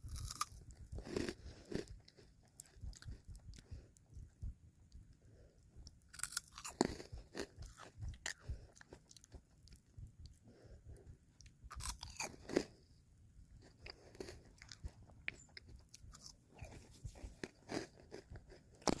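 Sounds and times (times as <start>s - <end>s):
crunchy chewing: 0.0s - 4.1s, 5.6s - 19.0s.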